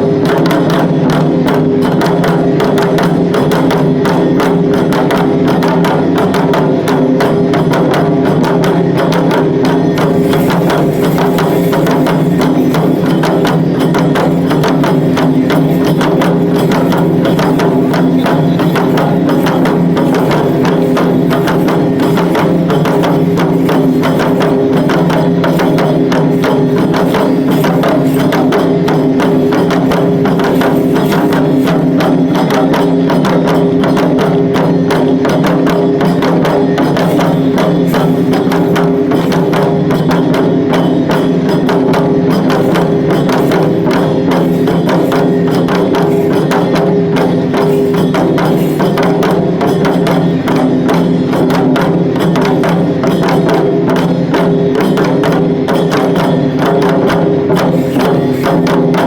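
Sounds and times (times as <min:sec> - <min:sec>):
drums in rapid rhythm: 0:00.0 - 0:59.0.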